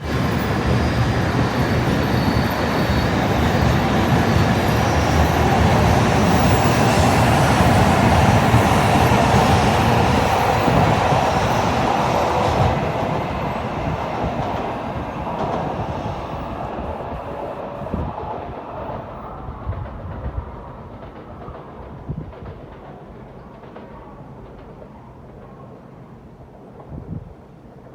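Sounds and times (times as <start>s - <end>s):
bullet train rushing past: 0.0s - 27.9s.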